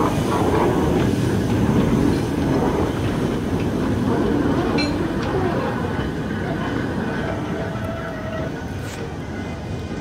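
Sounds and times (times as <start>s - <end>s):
train rumbling over rails: 0.0s - 10.0s.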